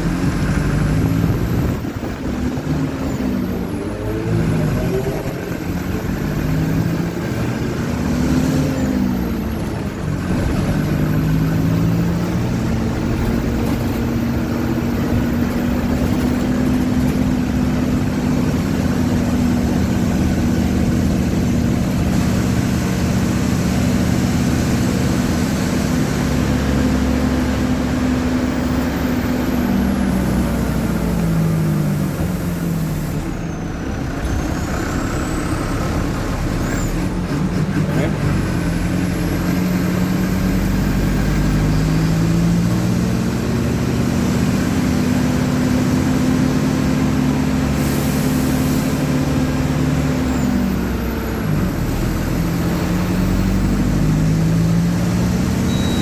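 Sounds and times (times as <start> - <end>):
bus diesel engine pulling: 0.0 - 56.0.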